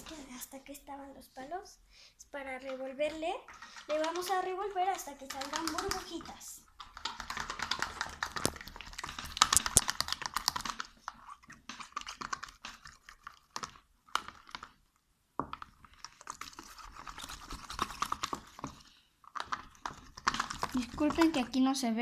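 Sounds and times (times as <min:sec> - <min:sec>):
sticks stirring soap in plastic tub: 0:00.0 - 0:22.0.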